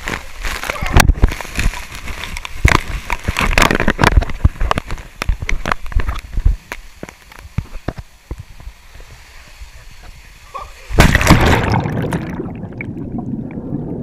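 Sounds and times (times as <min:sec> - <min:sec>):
water drips and pops: 0:00.0 - 0:08.7, 0:11.0 - 0:14.0
water splashing on camera: 0:00.0 - 0:09.2, 0:10.0 - 0:14.0.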